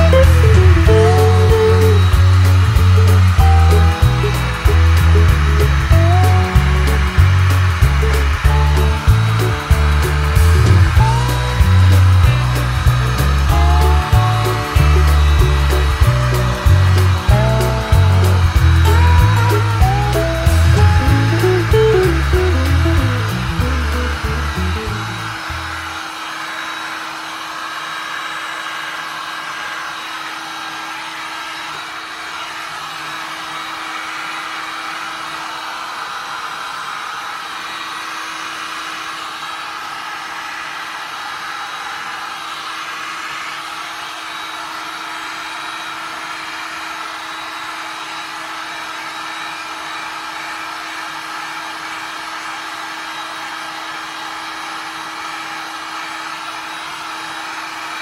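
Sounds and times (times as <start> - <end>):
heat gun blowing air: 0.0 - 58.0.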